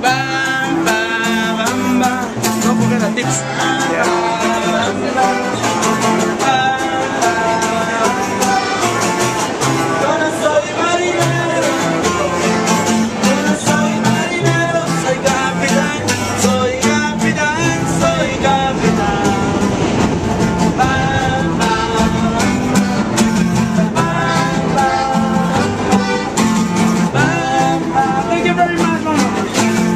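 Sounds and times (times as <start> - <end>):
person singing: 0.0 - 29.9
strummed acoustic guitars: 0.0 - 29.9.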